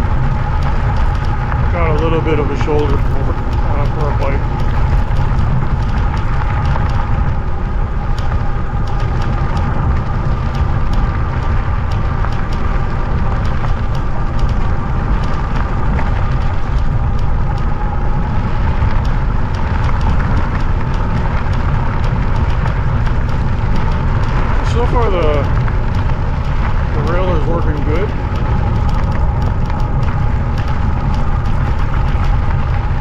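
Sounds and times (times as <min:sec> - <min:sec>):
bike riding noise: 0:00.0 - 0:33.0
faint steady whine: 0:00.0 - 0:33.0
wind buffeting microphone: 0:00.0 - 0:33.0.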